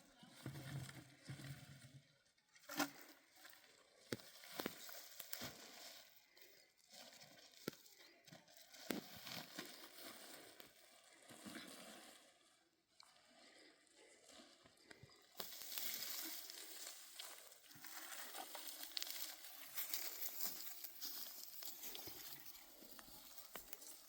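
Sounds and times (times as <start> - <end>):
faint rustling and crinkling: 0.0 - 24.0.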